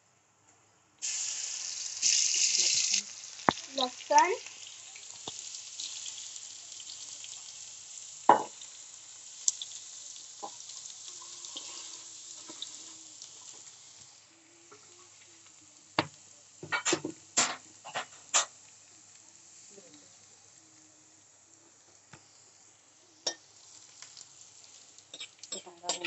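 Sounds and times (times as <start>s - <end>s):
garlic sizzling in hot oil: 1.0s - 26.0s.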